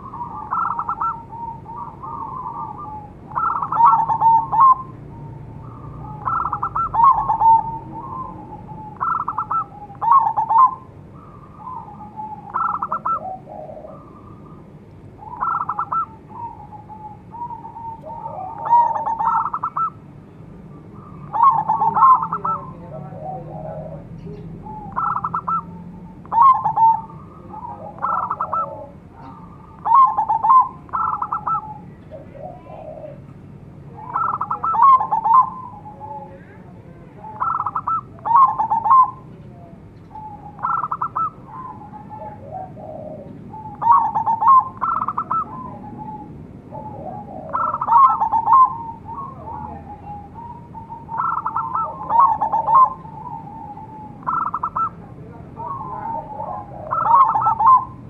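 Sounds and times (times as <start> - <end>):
fainter lower dove coos: 0.0 - 20.0, 20.9 - 33.3, 33.9 - 36.6, 37.2 - 58.0
dove cooing with rattling trills: 0.0 - 58.0.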